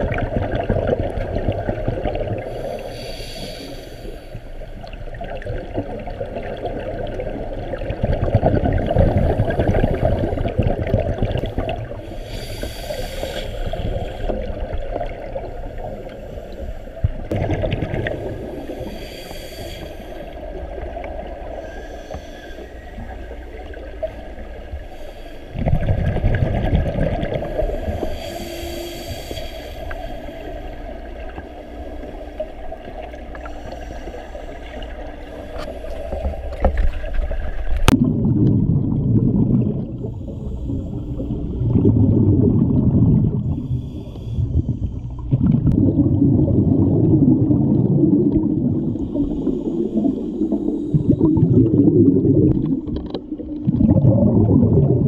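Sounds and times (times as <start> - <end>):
scuba exhaust bubbles gurgling: 0.0 - 55.0
underwater hiss and hum: 0.0 - 55.0.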